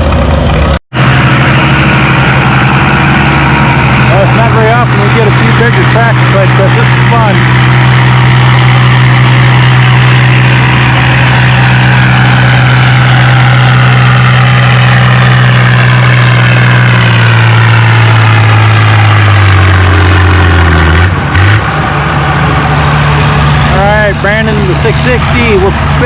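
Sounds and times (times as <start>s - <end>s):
tractor engine lugging: 0.0s - 26.0s.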